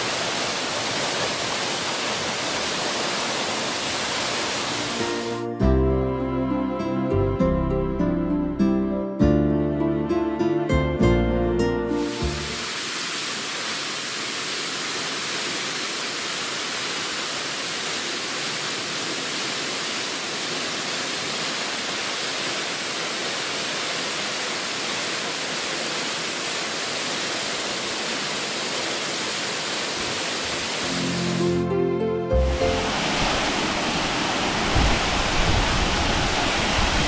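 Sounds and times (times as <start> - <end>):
waterfall rushing: 0.0 - 5.5, 11.9 - 37.0.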